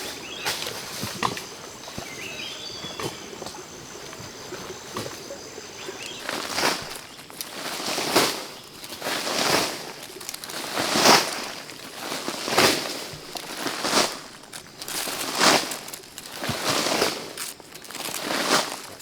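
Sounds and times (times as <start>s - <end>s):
footsteps crunching dry leaves: 0.0s - 19.0s.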